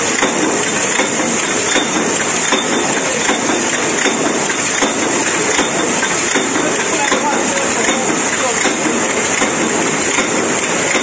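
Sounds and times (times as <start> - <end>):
press machine running: 0.0 - 11.0
faint regular mechanical knocks: 0.1 - 11.0.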